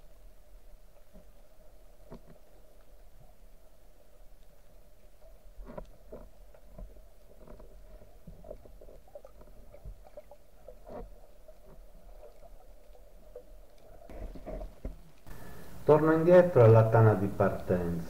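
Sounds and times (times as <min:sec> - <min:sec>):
underwater low rumble and hum: 0:00.0 - 0:18.0.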